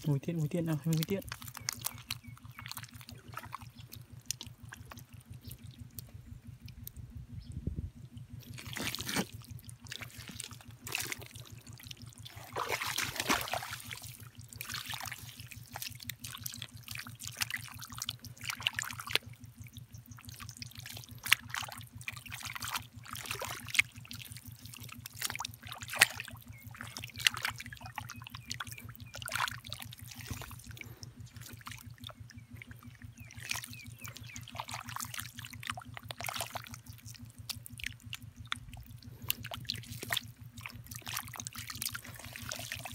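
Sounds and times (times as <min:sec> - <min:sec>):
water splashing and trickling: 0:00.0 - 0:07.0, 0:08.2 - 0:42.9
mud squelching: 0:00.0 - 0:07.2, 0:08.0 - 0:42.9
steady low hum: 0:00.0 - 0:42.9.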